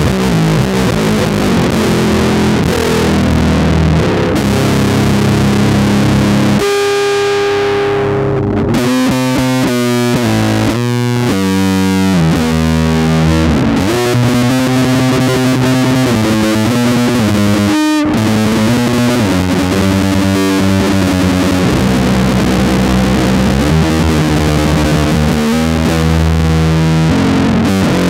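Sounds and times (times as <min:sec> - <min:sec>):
electric bass metal riff: 0:00.0 - 0:28.0.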